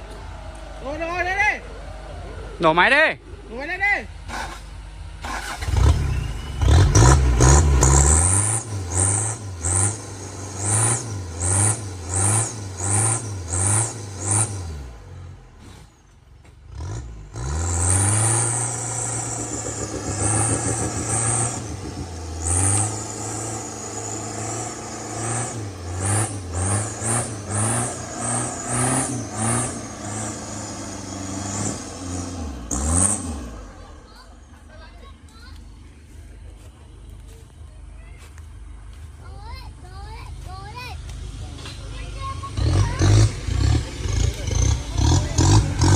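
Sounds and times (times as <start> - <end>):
off-road vehicle engine revving: 2.4 - 37.4, 40.2 - 45.9.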